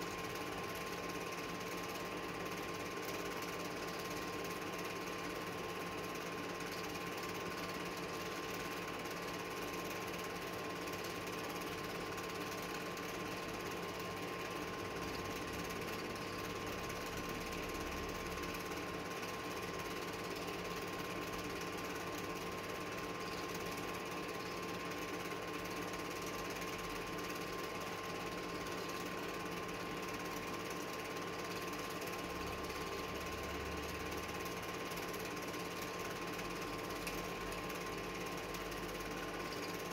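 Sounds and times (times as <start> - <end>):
film projector clatter: 0.0 - 39.9
motor hum: 0.0 - 39.9.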